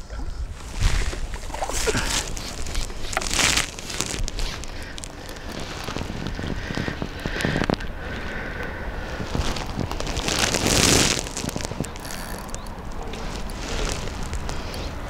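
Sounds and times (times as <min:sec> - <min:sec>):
crackling and rustling: 0:00.0 - 0:15.0
wind rumble on microphone: 0:00.0 - 0:15.0.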